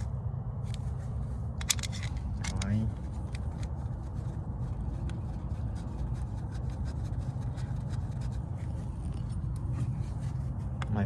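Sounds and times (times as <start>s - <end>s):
steady low hum: 0.0s - 11.0s
light clicks and rubbing: 0.6s - 11.0s.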